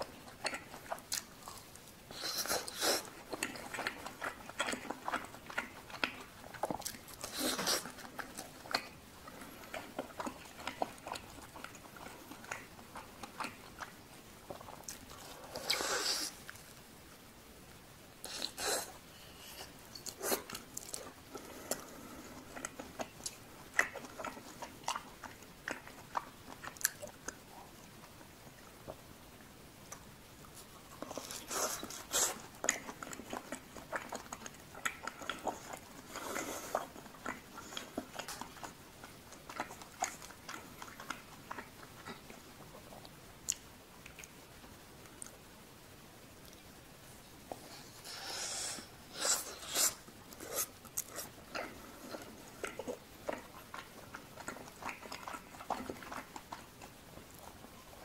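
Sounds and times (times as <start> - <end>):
close-up chewing and mouth smacks: 0.0 - 58.0.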